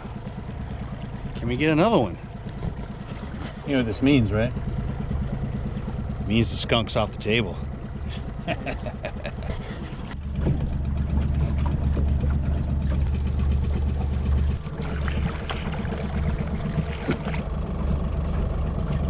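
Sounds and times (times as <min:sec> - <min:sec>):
outboard motor droning: 0:00.0 - 0:19.0
water washing along hull: 0:00.0 - 0:19.0.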